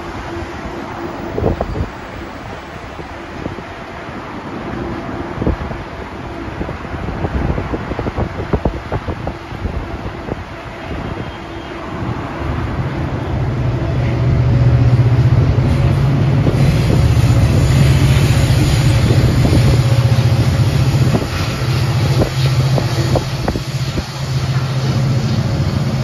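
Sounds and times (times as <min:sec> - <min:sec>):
highway traffic: 0:00.0 - 0:26.0
train drone: 0:00.0 - 0:26.0
wind buffeting microphone: 0:00.0 - 0:26.0.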